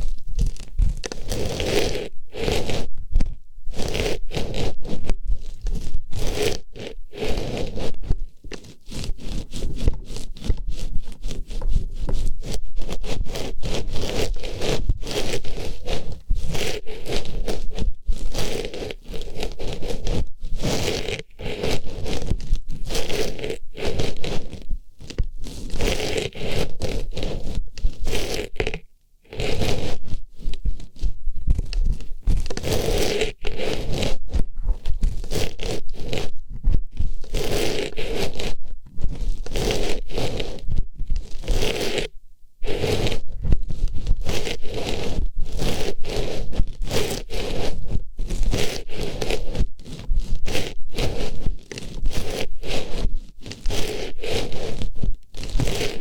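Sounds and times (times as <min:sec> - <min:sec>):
artificial flower scratching in ear: 0:00.0 - 0:56.0.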